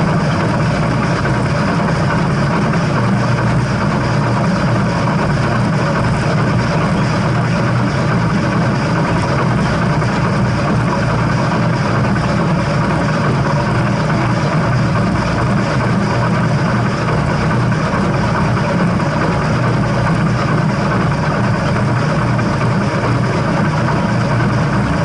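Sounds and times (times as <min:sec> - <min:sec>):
moving steam train rumble: 0:00.0 - 0:25.0.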